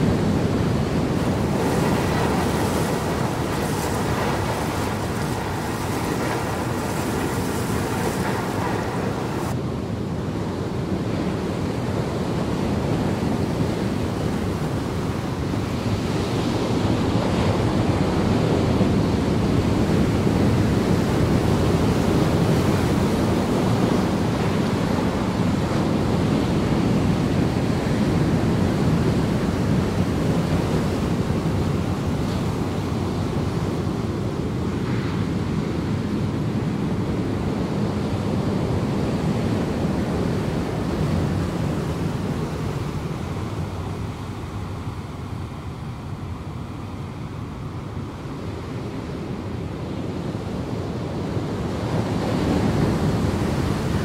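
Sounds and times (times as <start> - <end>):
ocean waves breaking: 0.0 - 54.0
wind buffeting microphone: 0.0 - 54.0.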